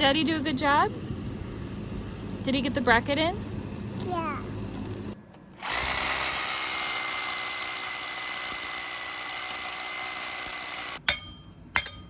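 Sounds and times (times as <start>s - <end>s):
power driver whining: 0.0s - 11.0s.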